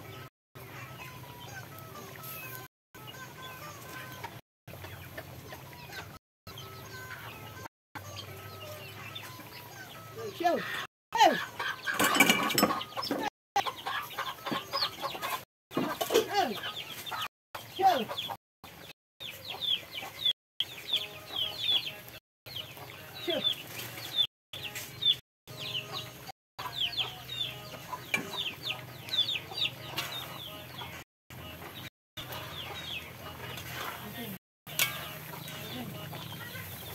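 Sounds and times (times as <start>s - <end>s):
chickens clucking: 0.0s - 36.9s.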